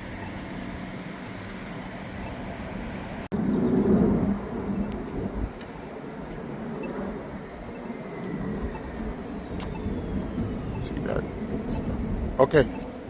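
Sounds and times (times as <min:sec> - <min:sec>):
low rumble: 0:00.0 - 0:13.0
street traffic noise: 0:00.0 - 0:13.0.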